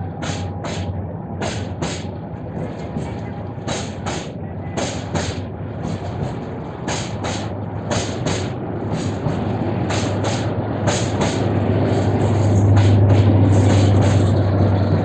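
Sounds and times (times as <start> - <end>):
low hum and rumble: 0.0 - 15.0
train wheels clacking over rail joints: 0.0 - 15.0.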